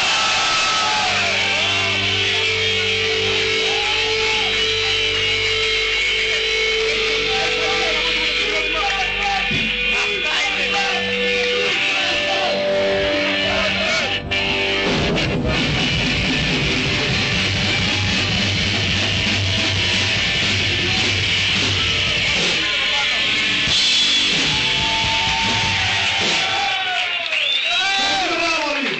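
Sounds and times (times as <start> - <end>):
thrash metal band playing live: 0.0 - 27.0.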